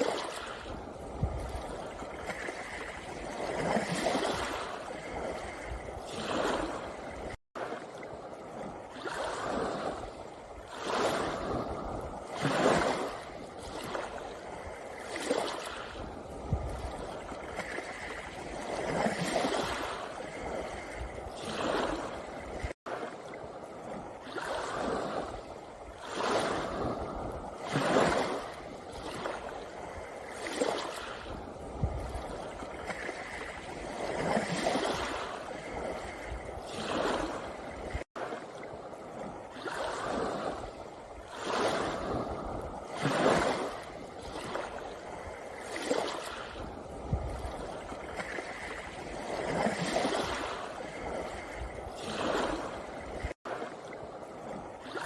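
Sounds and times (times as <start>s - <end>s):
waves washing over pebble beach: 0.0s - 7.8s, 8.4s - 23.2s, 23.8s - 55.0s.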